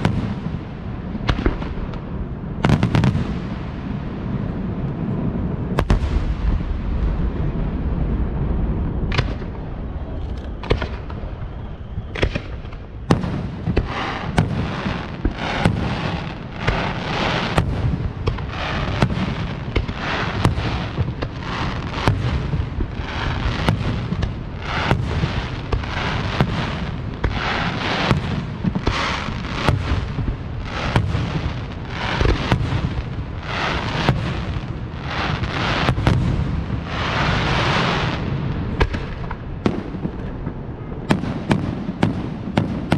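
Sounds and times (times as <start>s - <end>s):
fireworks hissing and crackling: 0.0s - 42.9s.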